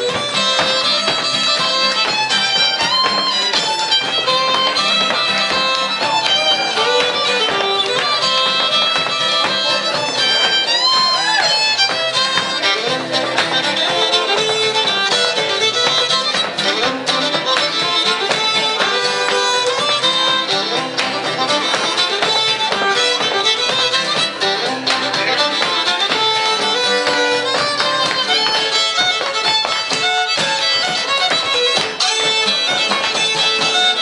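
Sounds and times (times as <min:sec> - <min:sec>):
string band playing dance tune: 0:00.0 - 0:34.0.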